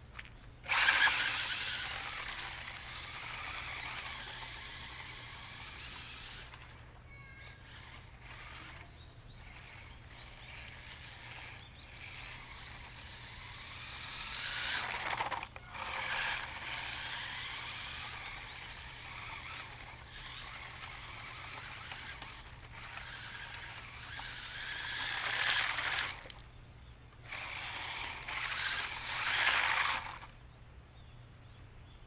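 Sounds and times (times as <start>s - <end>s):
toy truck motor whining: 0.6s - 26.5s, 27.2s - 30.4s.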